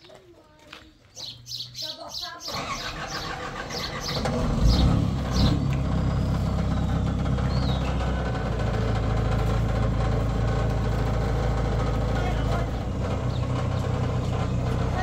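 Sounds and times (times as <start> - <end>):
engine running at low speed: 2.9 - 15.0.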